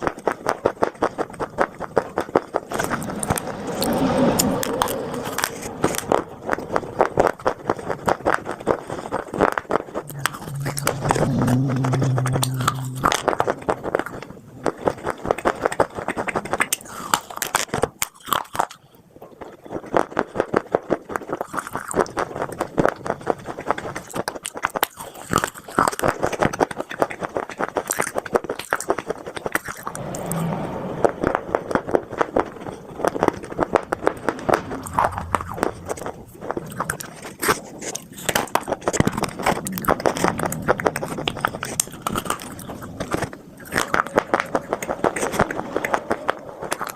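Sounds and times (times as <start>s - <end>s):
crunchy chewing of clay: 0.0s - 46.9s.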